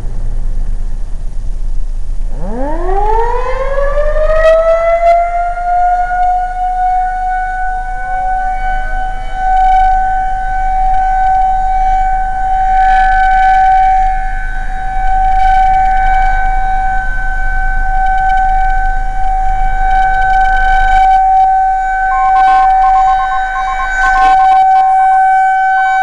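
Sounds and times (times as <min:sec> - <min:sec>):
faint second siren: 0:02.2 - 0:26.0
warning siren wailing: 0:02.3 - 0:26.0.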